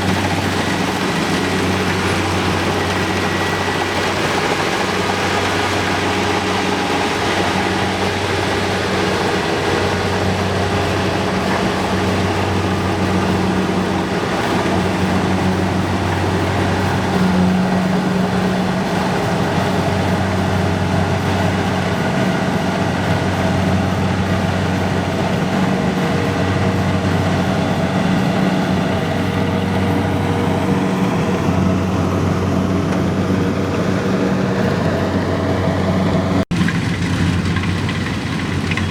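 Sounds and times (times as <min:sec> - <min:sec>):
engine running under load: 0:00.0 - 0:38.9.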